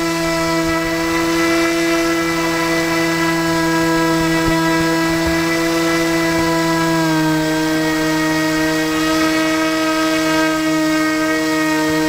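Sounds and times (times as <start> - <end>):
electric motor and propeller drone: 0.0 - 12.0.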